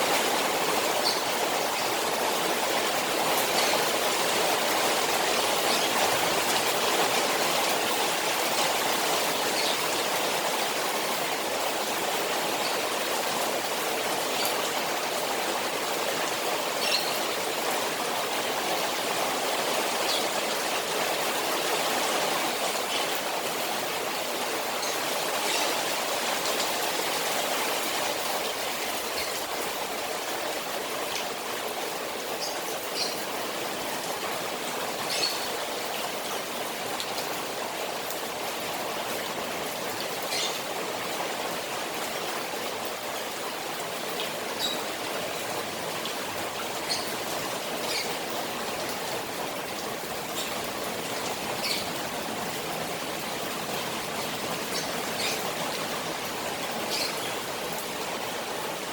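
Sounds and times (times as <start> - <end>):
rain rushing on pond: 0.0 - 58.9.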